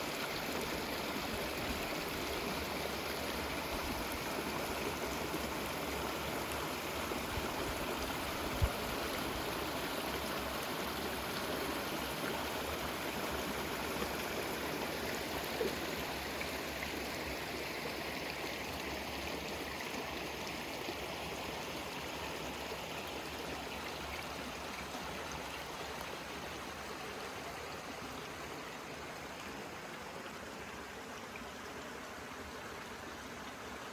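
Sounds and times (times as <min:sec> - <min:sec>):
river flowing: 0:00.0 - 0:33.9.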